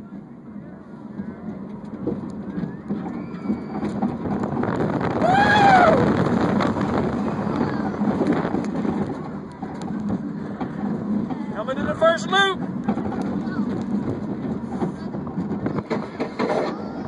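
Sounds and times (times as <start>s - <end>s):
roller coaster train rumbling: 0.0s - 17.0s
wind rush: 1.9s - 17.0s.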